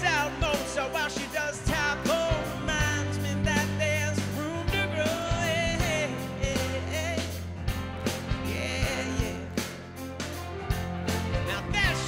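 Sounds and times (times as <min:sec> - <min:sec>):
drums: 0:00.0 - 0:12.0
sustained bass: 0:00.0 - 0:12.0.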